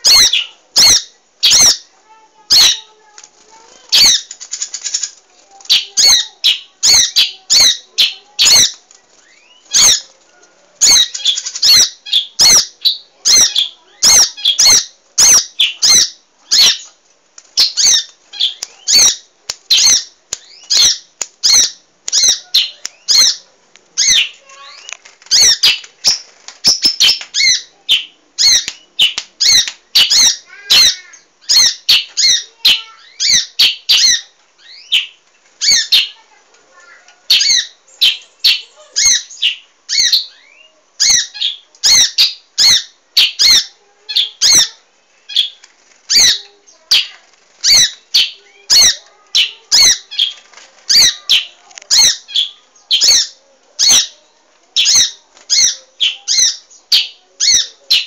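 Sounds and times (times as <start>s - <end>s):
bird chirping rapidly: 3.9s - 10.1s, 10.8s - 16.9s, 17.6s - 36.2s, 37.3s - 54.2s.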